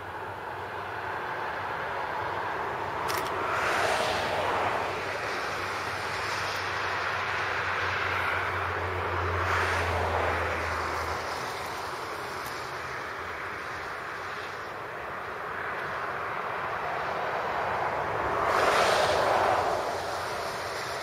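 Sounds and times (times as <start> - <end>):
distant locomotive rumble: 0.0 - 21.0
rushing noise: 1.0 - 21.0.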